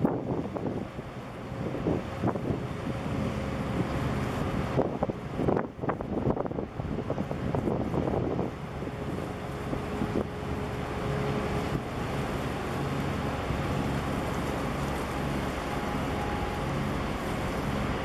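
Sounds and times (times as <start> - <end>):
ship engine rumble: 0.0 - 18.0
water washing: 0.0 - 18.0
wind buffeting microphone: 0.0 - 18.0.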